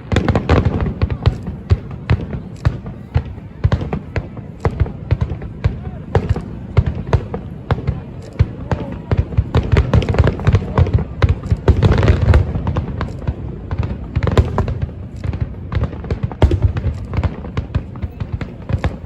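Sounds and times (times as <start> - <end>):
fireworks crackling bangs: 0.0 - 19.0
fireworks shells booming: 0.0 - 19.0.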